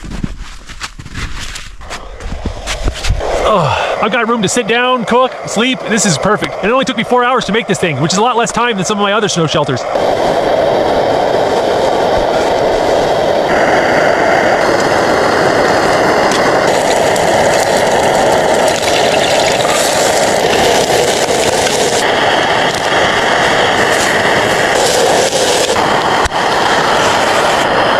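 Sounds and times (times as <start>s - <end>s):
loud steady rushing noise: 1.7s - 27.9s.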